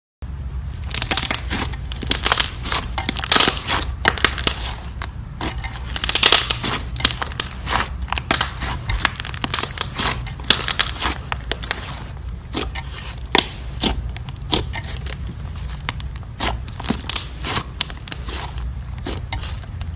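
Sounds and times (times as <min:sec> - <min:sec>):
steady low hum: 0:00.2 - 0:19.9
slime crackling and popping: 0:00.7 - 0:19.9.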